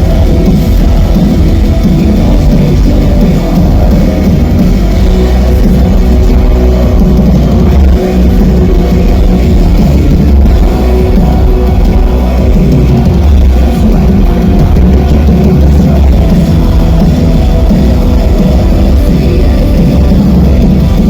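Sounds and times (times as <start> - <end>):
live synth band music: 0.0 - 21.0.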